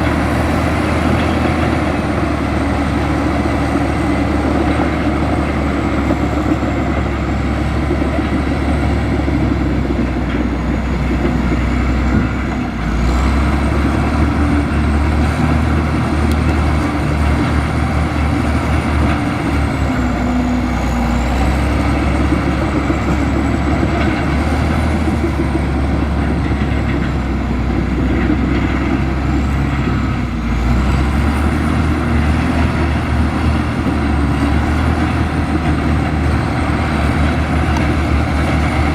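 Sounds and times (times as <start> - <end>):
heavy diesel machine rumbling: 0.0 - 38.9.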